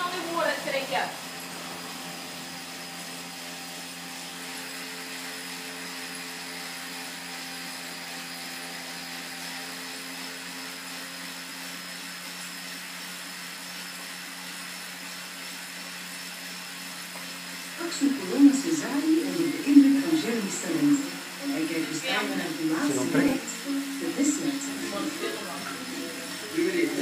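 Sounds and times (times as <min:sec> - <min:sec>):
bicycle trainer whirring: 0:00.0 - 0:27.0.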